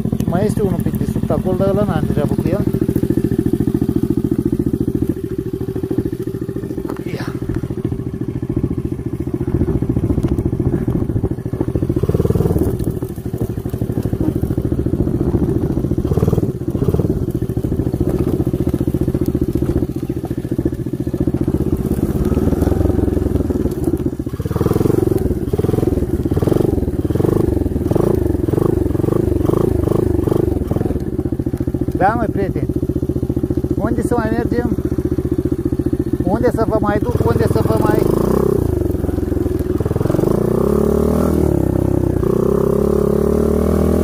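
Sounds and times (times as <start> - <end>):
atv engine revving: 0.0 - 44.0.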